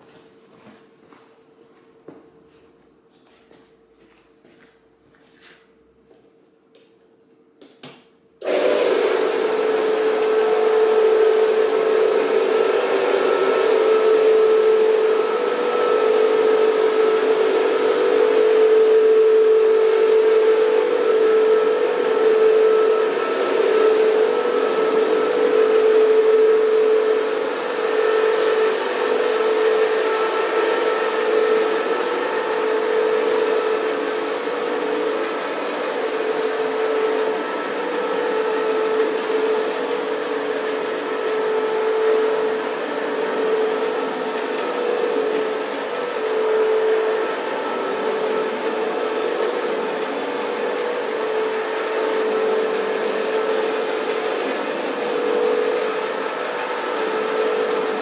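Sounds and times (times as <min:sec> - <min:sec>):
vacuum motor whining: 0:08.4 - 0:58.0.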